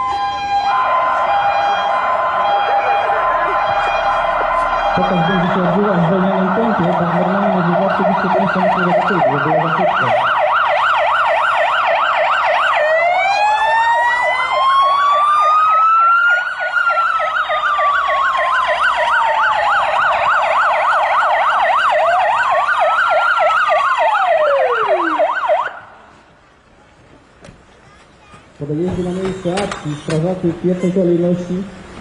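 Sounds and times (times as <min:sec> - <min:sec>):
fast yelping siren: 0:00.0 - 0:25.8
slow wailing siren: 0:00.0 - 0:26.0.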